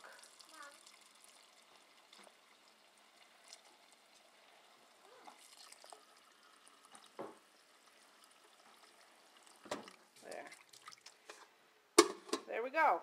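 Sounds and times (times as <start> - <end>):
tap water running into a pot: 0.0 - 11.4.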